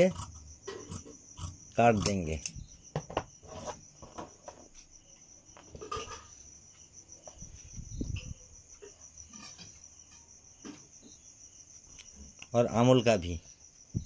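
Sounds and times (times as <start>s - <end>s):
insect trilling: 0.0s - 14.0s.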